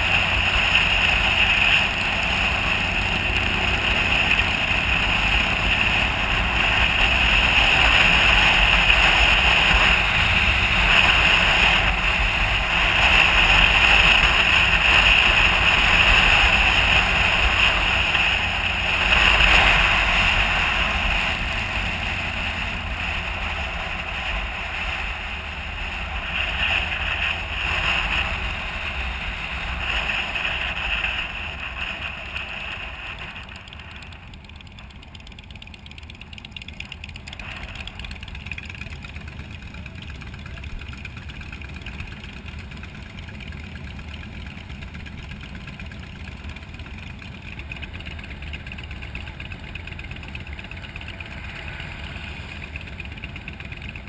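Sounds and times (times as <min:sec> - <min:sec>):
motorcycle engine: 0:00.0 - 0:54.0
road noise: 0:00.0 - 0:54.0.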